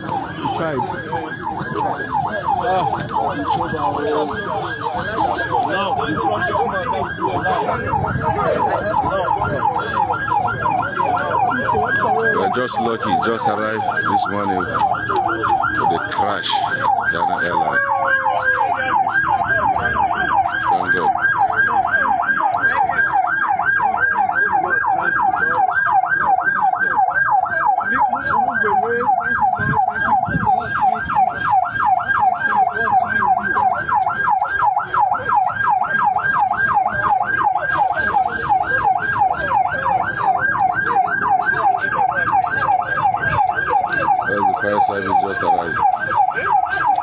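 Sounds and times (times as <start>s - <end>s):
emergency siren yelping: 0.0s - 47.0s.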